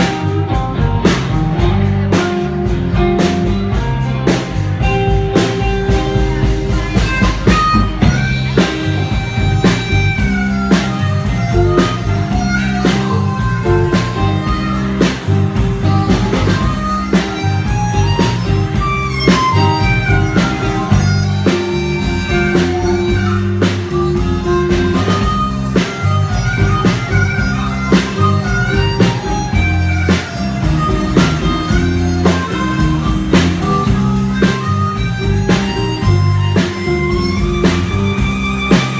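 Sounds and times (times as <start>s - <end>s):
amplified harmonica lead: 0.0s - 38.9s
live blues band: 0.0s - 38.9s.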